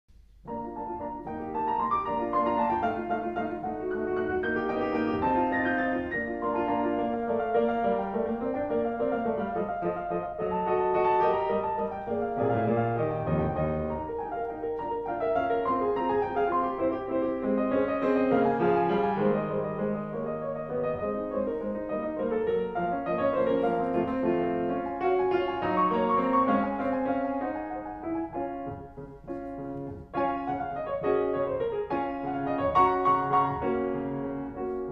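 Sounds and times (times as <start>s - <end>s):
piano music: 0.1s - 34.9s.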